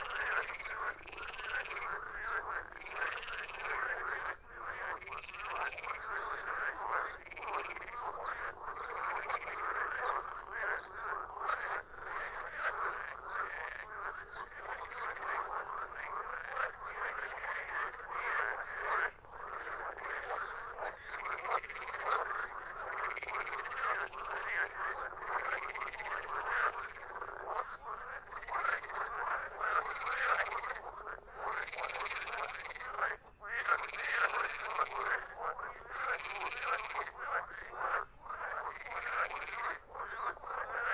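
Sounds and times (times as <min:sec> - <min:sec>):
frogs croaking chorus: 0:00.0 - 0:40.9.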